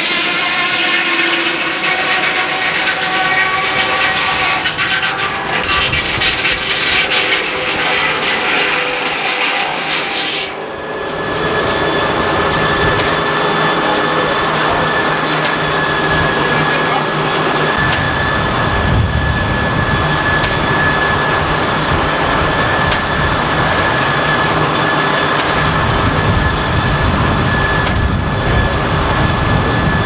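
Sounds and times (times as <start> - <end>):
saw cutting through log: 0.0 - 30.0
sawmill whine: 0.0 - 30.0.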